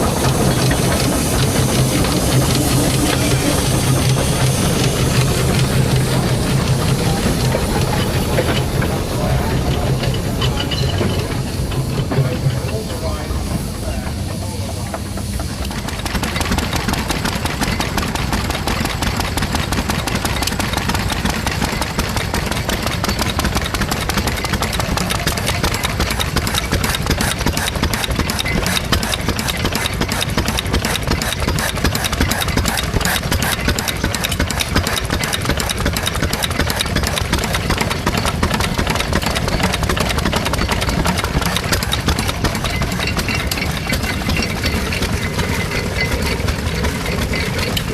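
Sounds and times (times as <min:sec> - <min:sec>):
engine running with knocking beat: 0:00.0 - 0:47.9.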